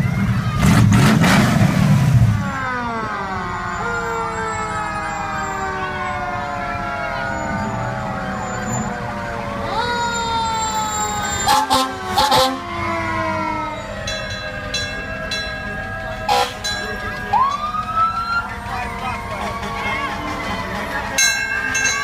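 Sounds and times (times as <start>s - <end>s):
fire engine sirens wailing: 0.0s - 22.0s.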